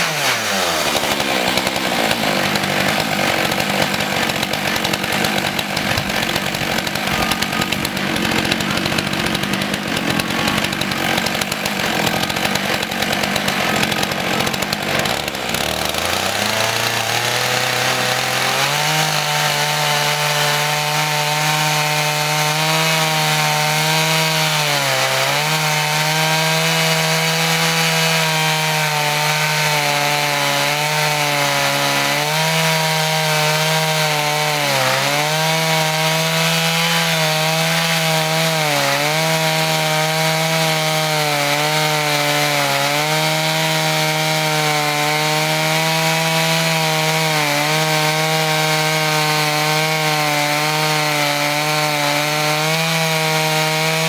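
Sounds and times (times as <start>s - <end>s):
chainsaw ripping a log: 0.0s - 54.0s.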